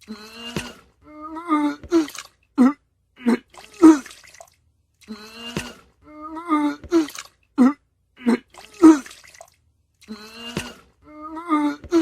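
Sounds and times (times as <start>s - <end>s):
person retching and vomiting: 0.0s - 4.4s, 5.0s - 12.0s.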